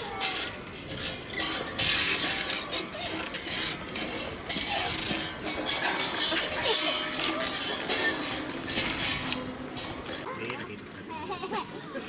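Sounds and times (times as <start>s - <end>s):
metal cylinders and chains clanking: 0.0s - 10.3s.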